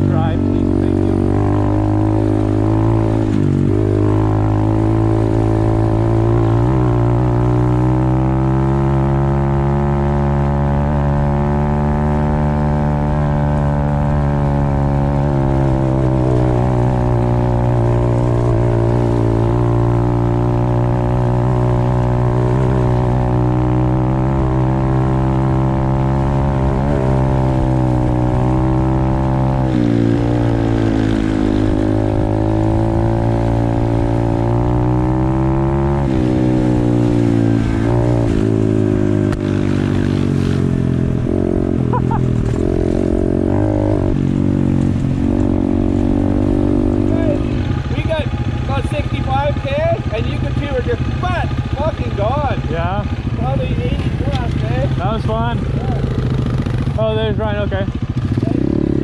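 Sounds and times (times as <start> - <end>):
pit bike engine revving high: 0.0 - 59.0.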